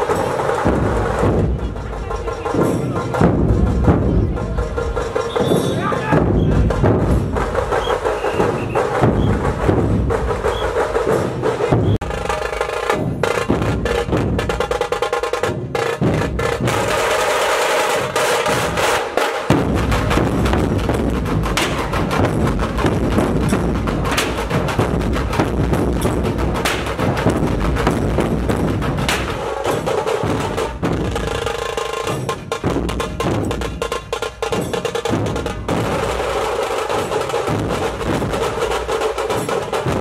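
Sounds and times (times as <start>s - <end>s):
dhol drums beating fast rhythm: 0.0s - 40.0s.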